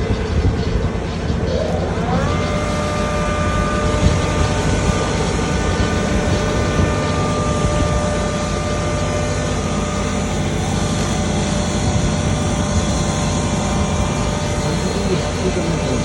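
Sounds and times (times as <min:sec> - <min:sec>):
grinder motor whining: 0:00.0 - 0:16.0.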